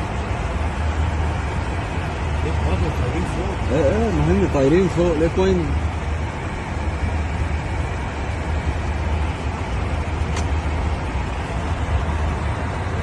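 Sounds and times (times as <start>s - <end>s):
airliner cabin engine noise: 0.0s - 13.0s.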